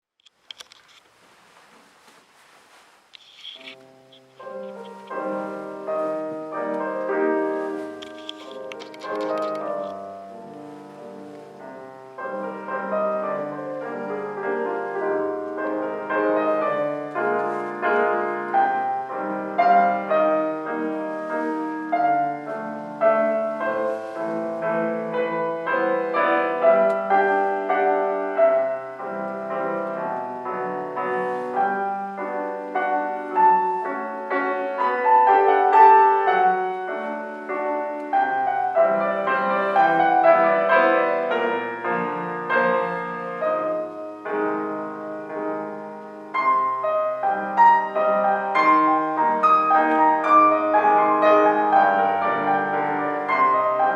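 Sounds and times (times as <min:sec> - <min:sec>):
solo piano music: 0:03.5 - 0:53.9.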